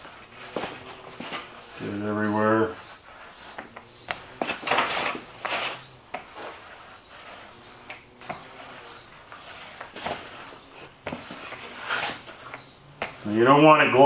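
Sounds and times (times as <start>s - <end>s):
roller rubbing and swishing: 0.0s - 14.0s.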